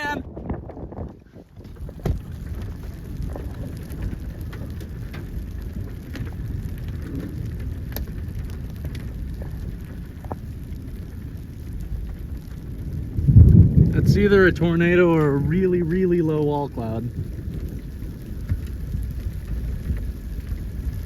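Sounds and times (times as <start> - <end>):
rain on a vehicle: 0.0 - 21.0
raindrops ticking: 0.0 - 21.0.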